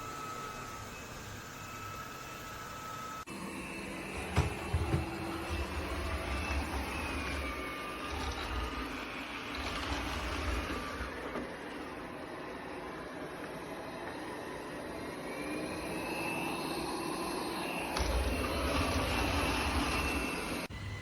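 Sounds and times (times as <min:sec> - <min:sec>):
robot vacuum whirring: 0:00.0 - 0:21.0.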